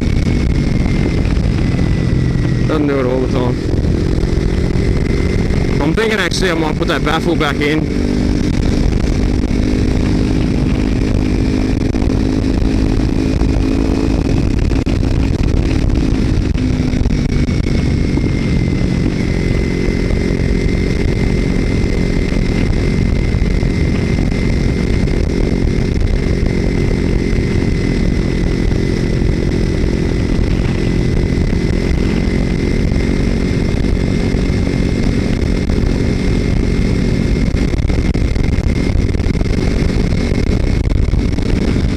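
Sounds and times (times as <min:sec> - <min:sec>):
motorcycle engine running: 0:00.0 - 0:41.9
wind rushing: 0:00.0 - 0:41.9.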